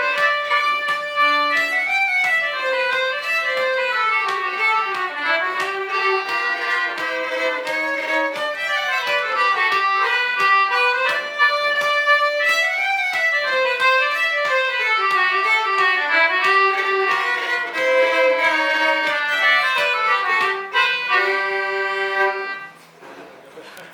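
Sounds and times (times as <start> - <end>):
fiddle playing folk tune: 0.0 - 22.8.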